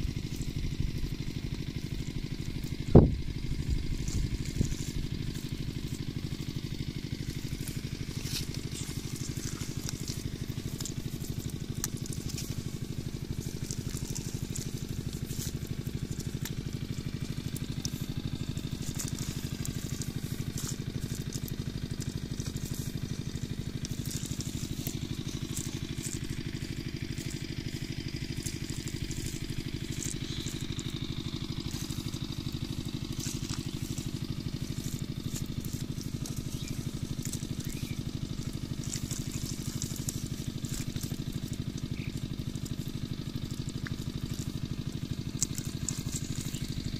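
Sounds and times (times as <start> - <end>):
engine chugging steadily: 0.0 - 46.9.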